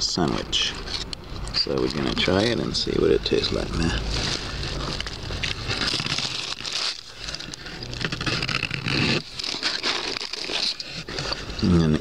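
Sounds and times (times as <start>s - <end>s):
paper wrapper rustling and crinkling: 0.0s - 12.0s.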